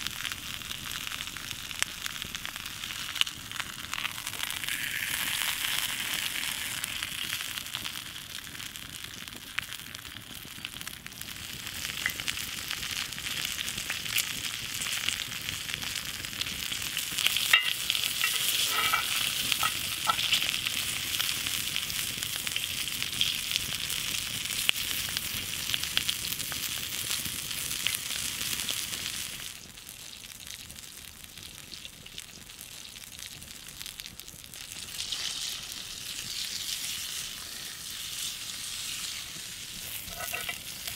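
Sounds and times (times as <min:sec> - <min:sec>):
steak sizzling in a skillet: 0:00.0 - 0:40.9.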